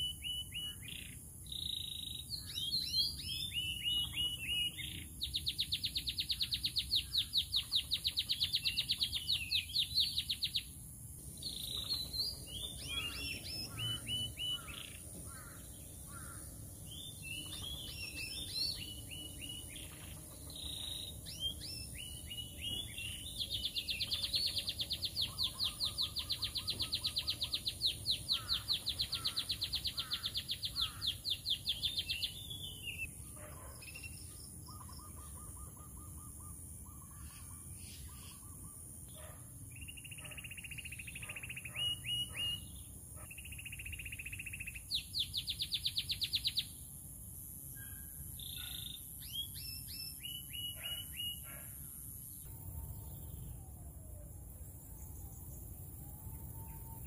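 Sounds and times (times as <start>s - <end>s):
canary singing trills: 0.0s - 46.8s, 47.7s - 51.7s.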